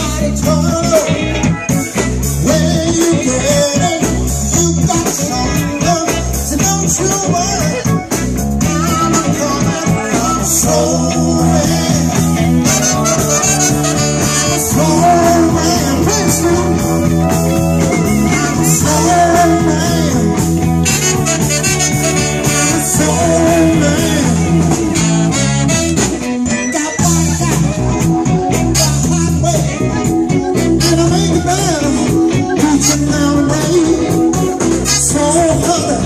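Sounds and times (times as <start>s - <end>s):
person singing: 0.0s - 25.6s, 26.3s - 36.0s
live blues band with horns: 0.0s - 36.0s.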